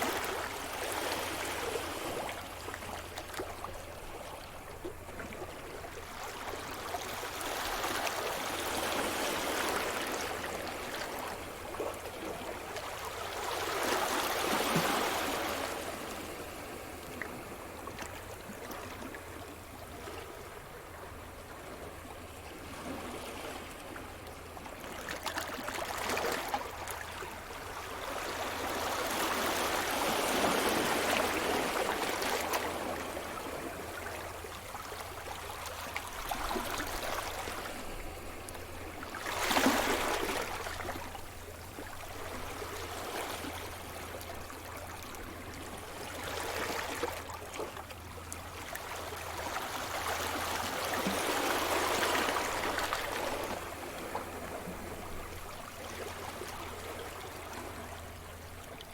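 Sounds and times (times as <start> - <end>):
waves breaking on shore: 5.1 - 58.8.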